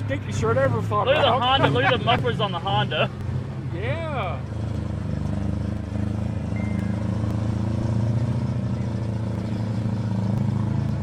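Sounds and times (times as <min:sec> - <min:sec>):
vehicle engines droning: 0:00.0 - 0:11.0.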